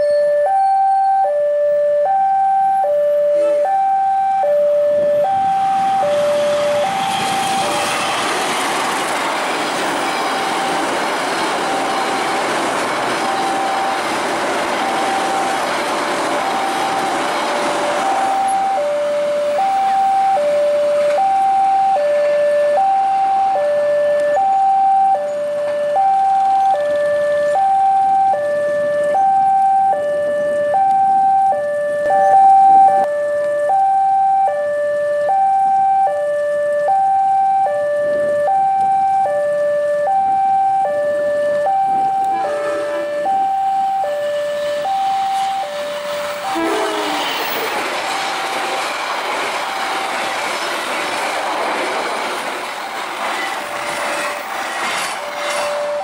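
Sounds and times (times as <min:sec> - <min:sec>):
level crossing two-tone alarm: 0:00.0 - 0:08.3, 0:09.8 - 0:50.4, 0:55.3 - 0:56.0
train wheels rolling on rails: 0:05.2 - 0:33.1, 0:35.2 - 0:56.0.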